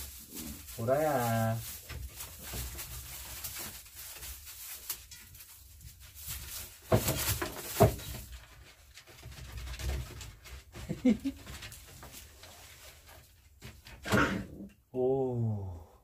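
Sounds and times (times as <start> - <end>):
puppies shuffling on straw: 0.0 - 13.5.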